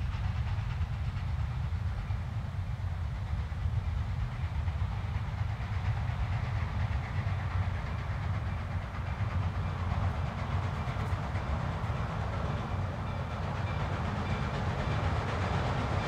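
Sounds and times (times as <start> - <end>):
steam locomotive rumble: 0.0 - 16.0.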